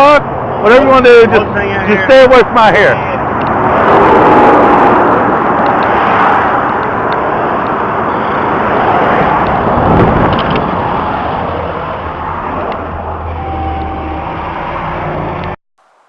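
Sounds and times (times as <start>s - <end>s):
road traffic: 0.0s - 16.0s
vehicle passing: 0.2s - 15.6s.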